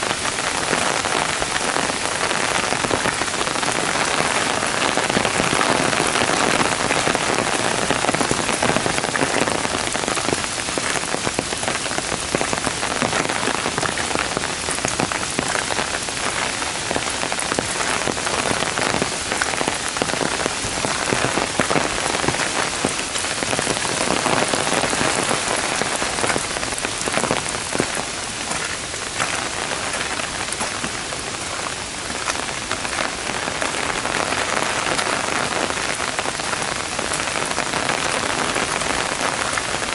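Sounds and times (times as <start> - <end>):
heavy rain on gravel and trees: 0.0 - 39.9.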